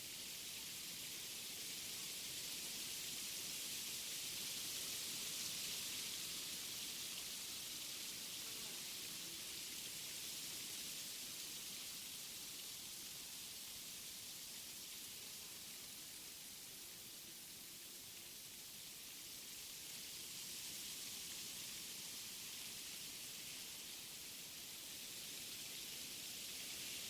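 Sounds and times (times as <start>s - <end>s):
wind through forest trees: 0.0s - 27.0s.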